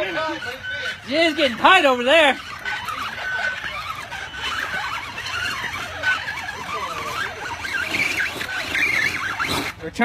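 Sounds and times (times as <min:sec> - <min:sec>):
small electric motor and gears whining: 0:00.0 - 0:10.0.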